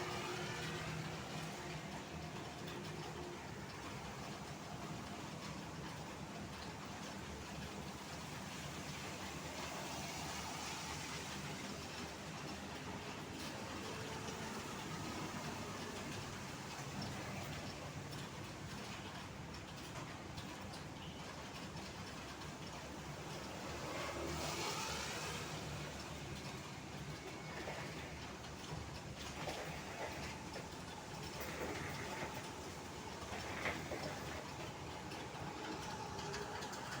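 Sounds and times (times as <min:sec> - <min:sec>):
traffic on wet road: 0:00.0 - 0:37.0.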